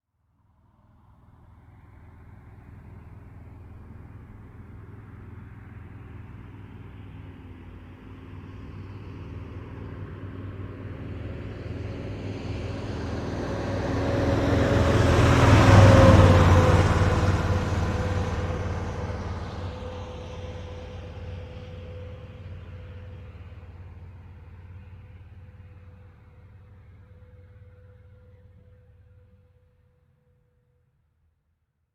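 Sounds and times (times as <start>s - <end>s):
truck driving past: 0.8s - 30.6s.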